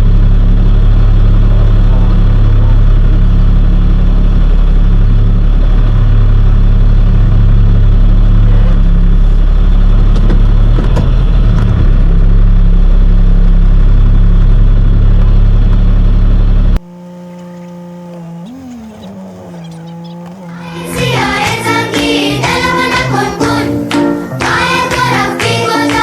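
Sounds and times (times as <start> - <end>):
truck engine and road drone: 0.0 - 26.0.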